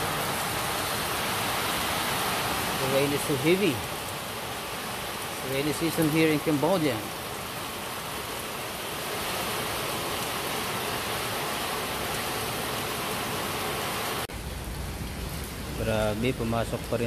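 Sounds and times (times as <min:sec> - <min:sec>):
heavy rain hissing: 0:00.0 - 0:17.0
low rumbling rain noise: 0:00.0 - 0:17.0.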